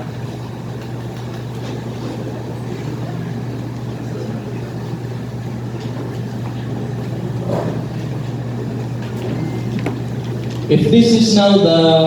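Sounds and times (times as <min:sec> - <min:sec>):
constant background rush: 0:00.0 - 0:12.0
steady low hum: 0:00.0 - 0:12.0.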